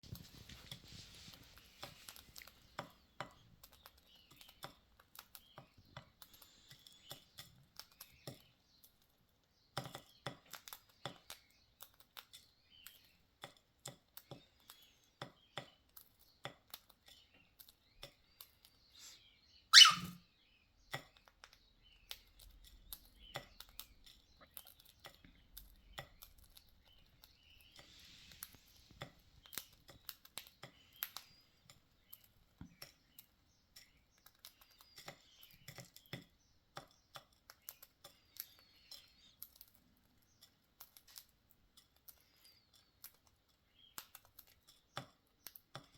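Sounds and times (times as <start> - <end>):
bird beak crunching food: 0.1 - 19.2, 20.9 - 45.9.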